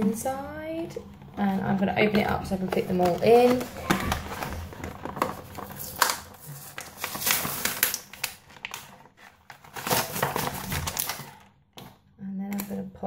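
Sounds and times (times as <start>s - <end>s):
plastic packaging crinkling: 1.1s - 12.0s.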